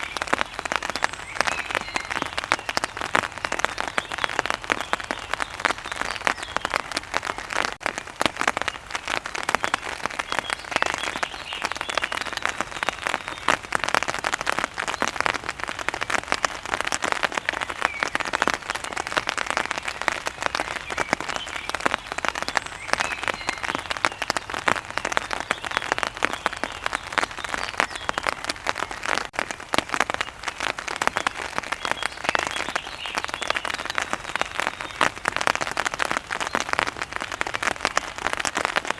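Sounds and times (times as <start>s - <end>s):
heavy rain patter: 0.0s - 38.9s.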